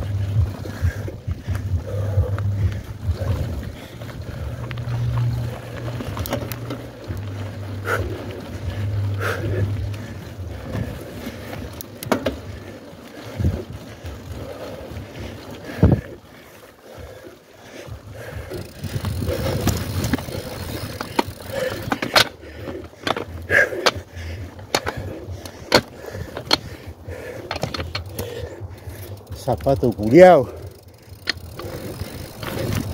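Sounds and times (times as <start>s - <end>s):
bike knocks and rattles: 0.0s - 16.2s, 17.9s - 32.9s
wind rumbling on microphone: 0.0s - 17.2s, 17.8s - 32.9s.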